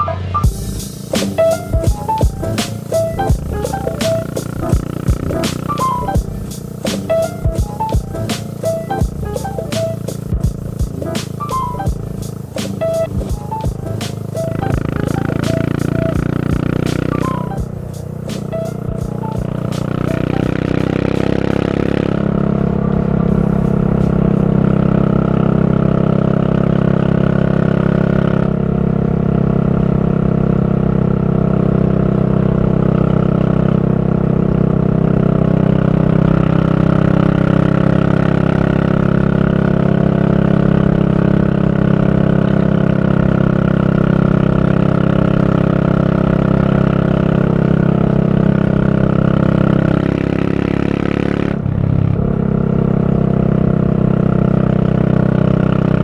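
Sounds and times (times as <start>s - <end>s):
motorcycle engine running: 0.4s - 56.0s.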